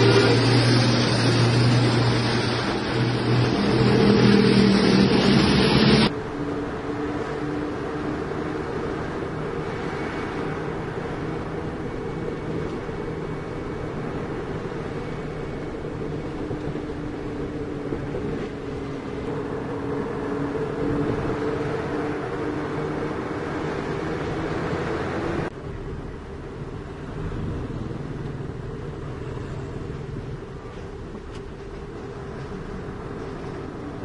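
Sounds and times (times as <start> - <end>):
road noise: 0.0 - 34.0
truck diesel engine running: 0.0 - 34.0.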